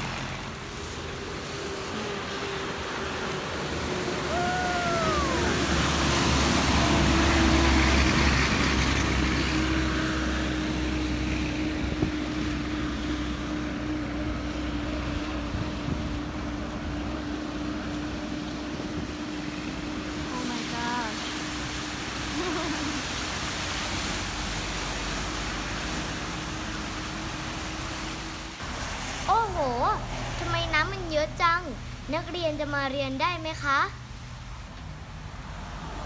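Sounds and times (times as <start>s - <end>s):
vehicle engine: 0.0s - 36.0s
water rushing under vehicle: 0.0s - 36.0s.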